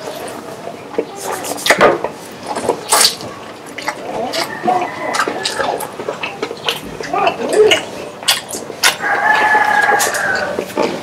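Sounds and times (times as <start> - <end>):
sharp crunches and clicks: 0.0 - 11.0
wet chewing and lip-smacking: 0.0 - 11.0.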